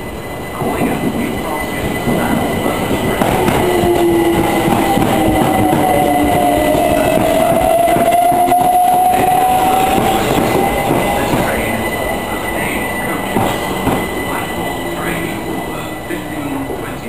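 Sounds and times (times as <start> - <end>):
electric train rumbling past: 0.0 - 17.0
high tone bending in pitch: 0.0 - 17.0.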